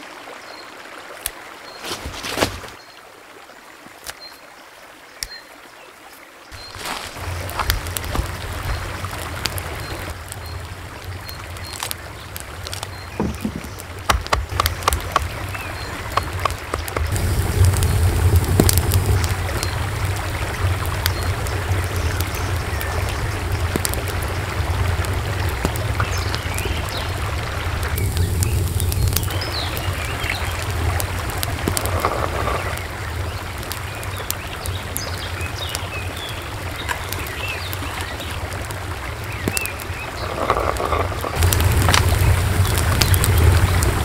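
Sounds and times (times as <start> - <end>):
running water rushing: 0.0 - 44.0
birds chirping: 1.6 - 3.0, 5.1 - 44.0.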